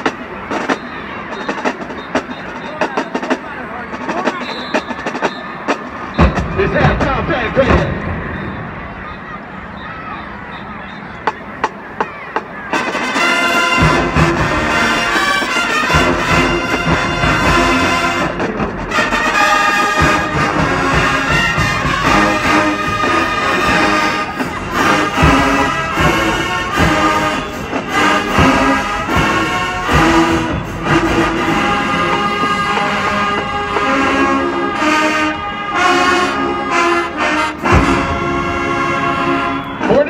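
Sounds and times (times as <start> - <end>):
marching band playing: 0.0 - 40.0.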